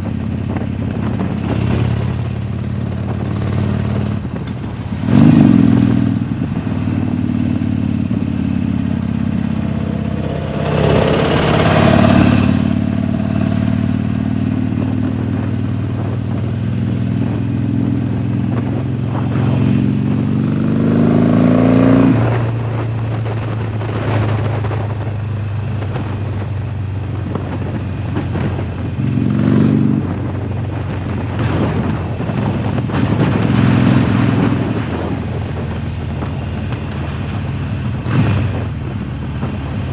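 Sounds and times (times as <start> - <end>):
motorcycle engine revving: 0.0 - 24.8, 27.2 - 39.9.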